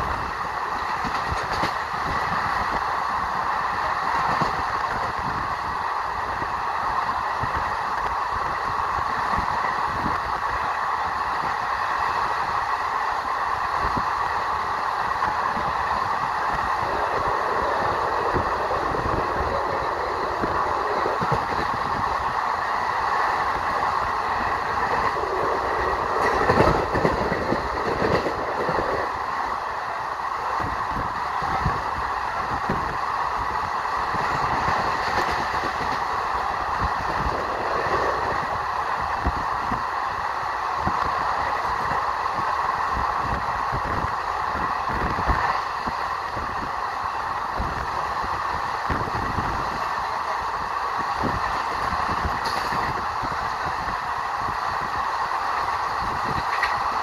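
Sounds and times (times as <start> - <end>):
train clanks: 0.0 - 57.0
train rolling roar: 0.0 - 57.0.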